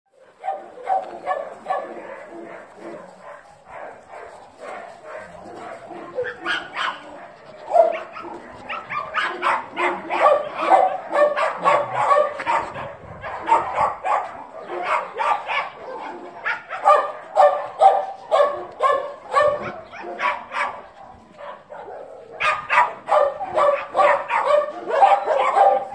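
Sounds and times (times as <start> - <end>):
dogs barking: 0.2 - 25.9.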